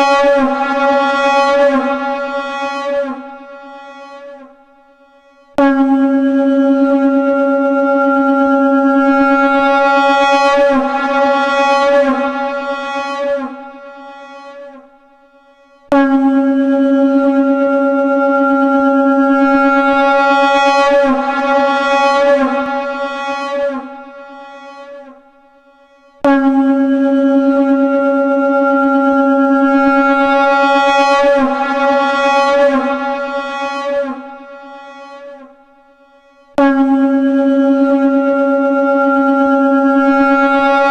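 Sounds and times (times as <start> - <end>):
conch shell long note: 0.0 - 40.9.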